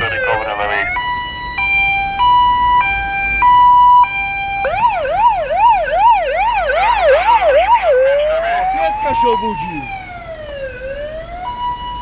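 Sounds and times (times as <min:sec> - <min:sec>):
siren yelp: 0:00.0 - 0:12.0
two-tone emergency siren: 0:00.0 - 0:12.0.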